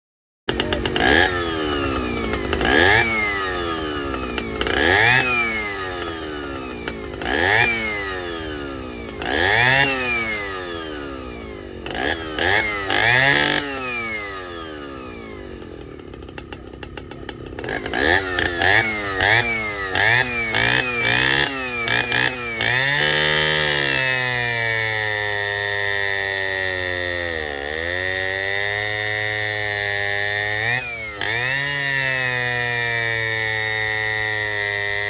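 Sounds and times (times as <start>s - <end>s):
chainsaw engine revving: 0.5s - 35.0s.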